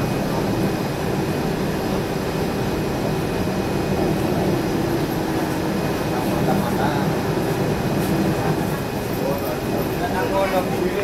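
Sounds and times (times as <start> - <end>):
train engine hum: 0.0 - 11.0
wheel and track noise: 0.0 - 11.0.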